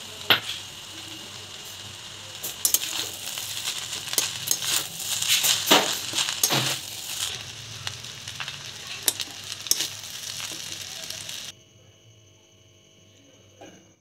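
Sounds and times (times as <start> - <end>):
rice sizzling in a metal pan: 0.0 - 11.6.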